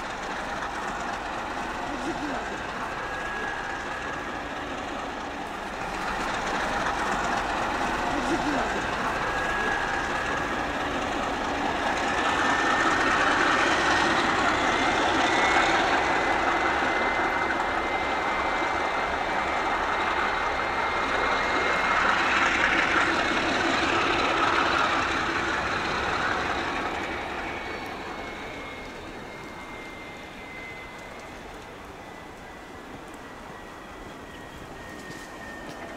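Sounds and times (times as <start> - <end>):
diesel locomotives running: 0.0 - 35.9
high-pitched whine: 0.0 - 35.9.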